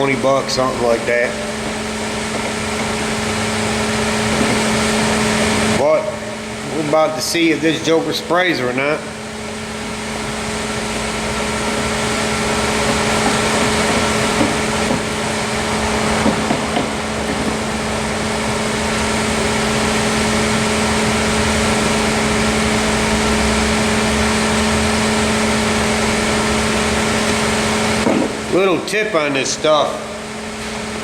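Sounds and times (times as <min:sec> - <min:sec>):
motor hum: 0:00.0 - 0:31.0.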